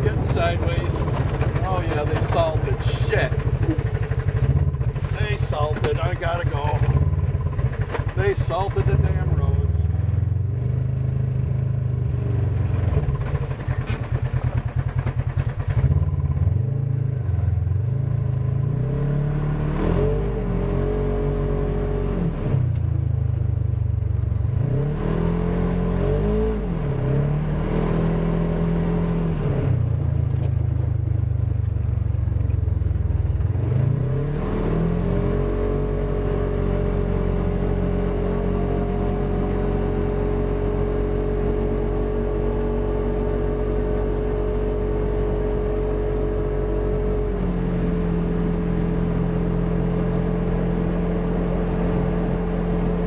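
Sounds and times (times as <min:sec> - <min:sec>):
engine revving: 0:00.0 - 0:22.9, 0:24.5 - 0:30.6, 0:33.4 - 0:53.0.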